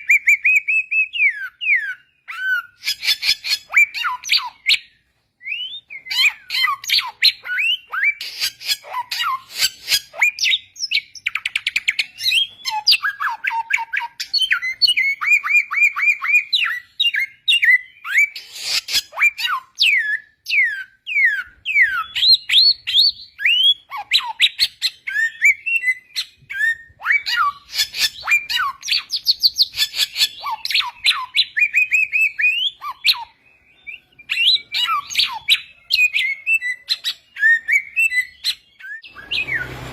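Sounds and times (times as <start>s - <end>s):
songbird singing trills: 0.0s - 39.8s.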